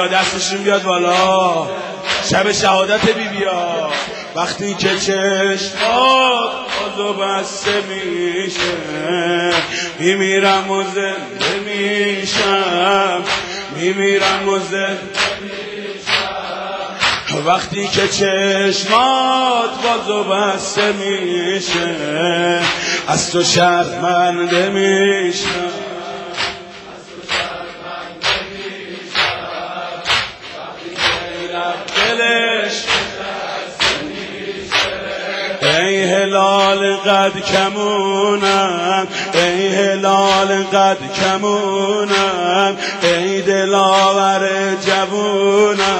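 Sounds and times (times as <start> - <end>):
mourners beating chests: 0.0 - 43.2
man singing a lament: 0.0 - 45.9.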